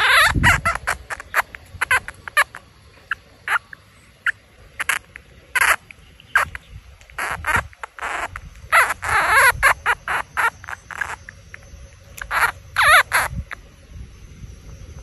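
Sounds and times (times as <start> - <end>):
baby squirrel squeaking: 0.0 - 13.6.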